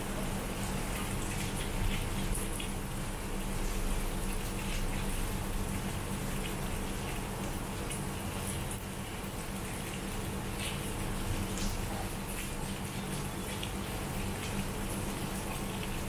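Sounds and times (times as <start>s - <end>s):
heavy rain: 0.0s - 8.8s, 11.0s - 15.6s
drips and splashes: 0.0s - 16.0s.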